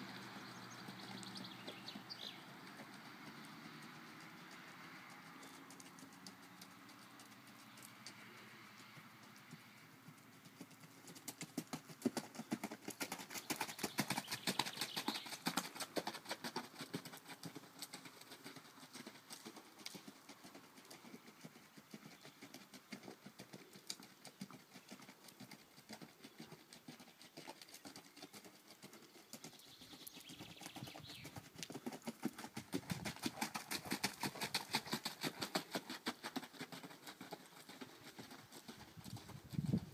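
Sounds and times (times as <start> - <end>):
horse hoofbeats on dirt: 0.1 - 39.9.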